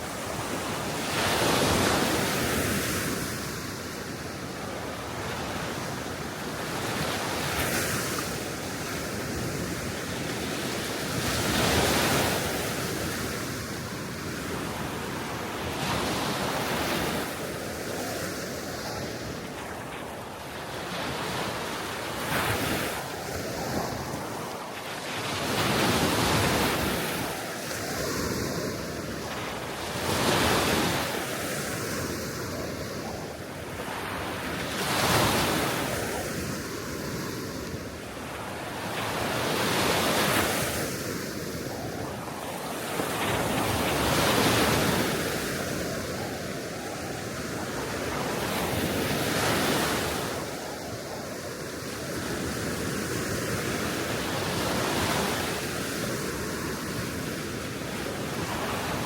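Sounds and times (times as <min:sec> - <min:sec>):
sea waves washing onto shore: 0:00.0 - 0:59.0
steady wind: 0:00.0 - 0:59.0.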